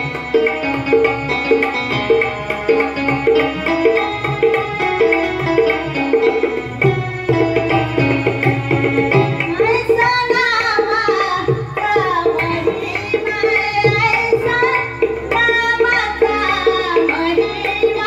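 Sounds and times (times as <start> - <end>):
tabla rhythm: 0.0 - 18.0.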